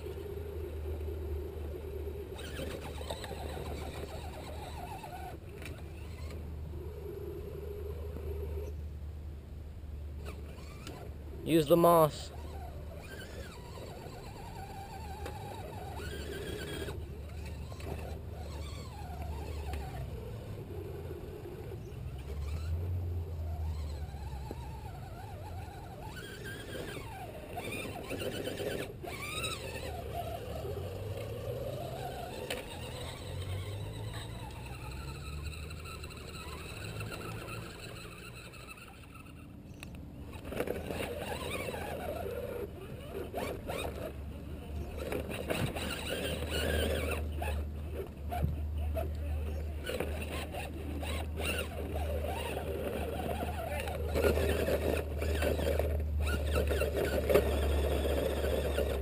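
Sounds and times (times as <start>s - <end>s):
electric motors whining: 0.0s - 8.8s, 10.0s - 59.0s.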